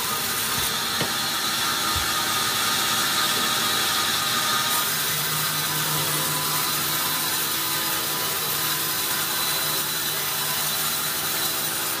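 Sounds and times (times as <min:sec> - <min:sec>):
band saw humming: 0:00.0 - 0:12.0.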